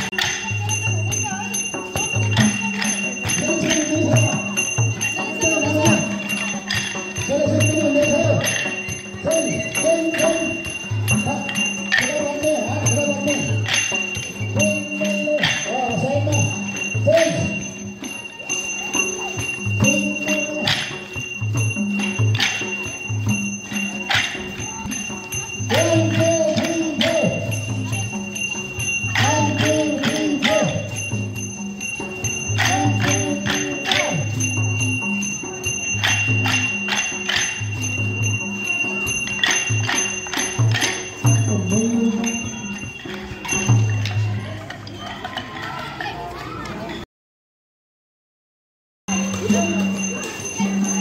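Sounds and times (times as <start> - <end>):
drum beating steady rhythm: 0.0 - 46.2, 49.1 - 51.0
voices calling out: 0.0 - 47.1, 49.1 - 51.0.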